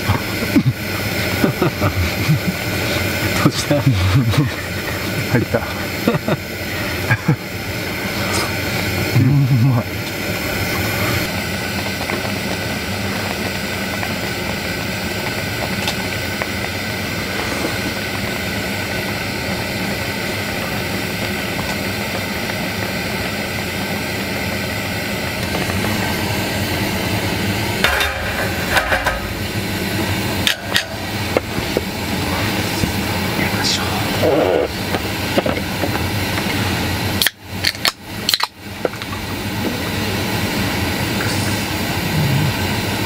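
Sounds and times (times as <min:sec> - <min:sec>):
gas burner flame hissing: 0:00.0 - 0:43.0.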